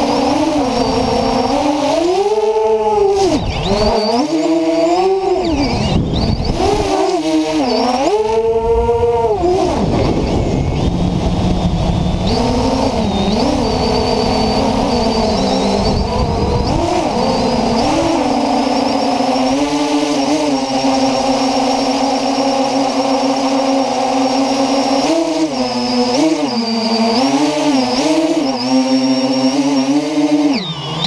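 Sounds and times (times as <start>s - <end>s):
drone propellers whining: 0.0s - 31.0s.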